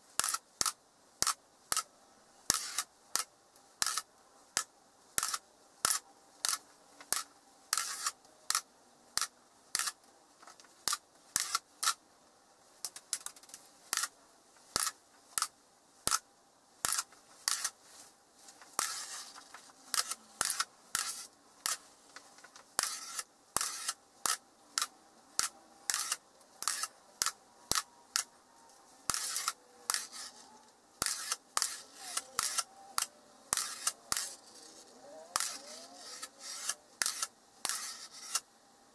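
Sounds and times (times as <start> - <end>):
magnetic steel balls clicking: 0.2 - 1.9, 2.5 - 12.0, 12.8 - 16.2, 16.8 - 17.8, 18.6 - 28.3, 29.1 - 38.4.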